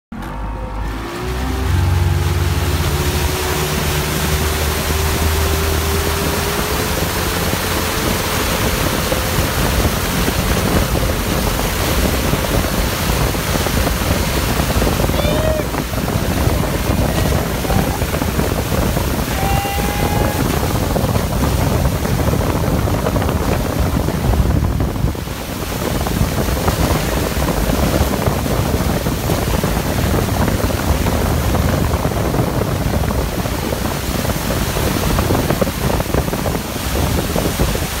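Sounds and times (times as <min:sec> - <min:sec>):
boat engine running: 0:00.0 - 0:38.0
churning water and spray: 0:00.2 - 0:38.0
wind on microphone: 0:00.6 - 0:38.0.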